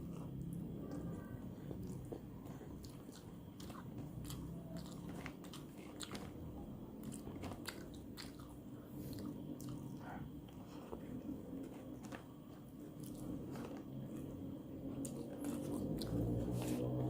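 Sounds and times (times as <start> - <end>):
chewing with crisp crunches: 0.0 - 17.0.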